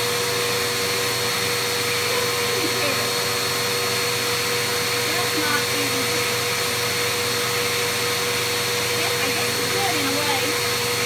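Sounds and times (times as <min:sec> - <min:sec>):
vacuum cleaner motor whine: 0:00.0 - 0:11.0.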